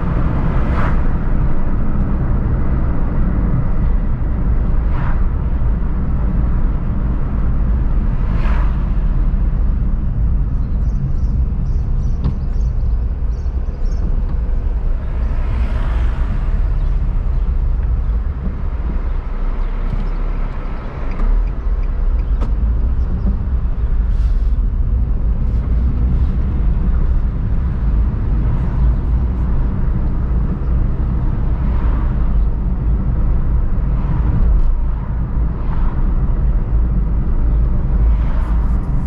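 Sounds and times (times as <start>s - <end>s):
car road and engine rumble: 0.0s - 39.0s
passing traffic: 0.0s - 39.0s.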